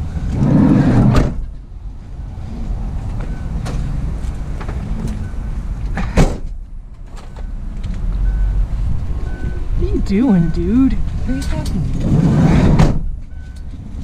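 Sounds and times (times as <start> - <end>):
vehicle engine low rumble: 0.0 - 14.0.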